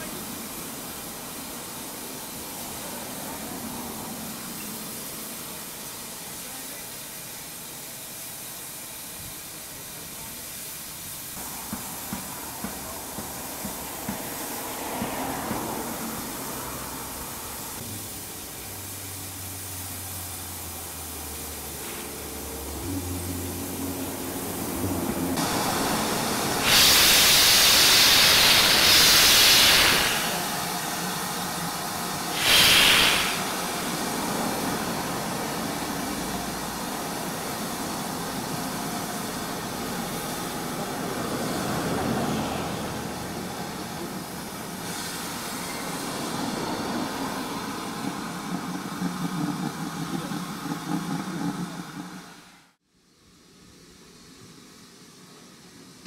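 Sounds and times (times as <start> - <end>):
steam engine rumble: 0.0 - 56.0
steam hissing from locomotive: 0.0 - 56.0.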